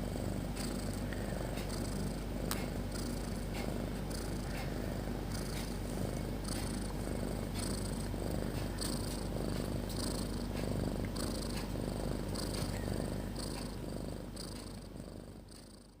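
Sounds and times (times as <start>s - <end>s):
cat snoring: 0.0s - 16.0s.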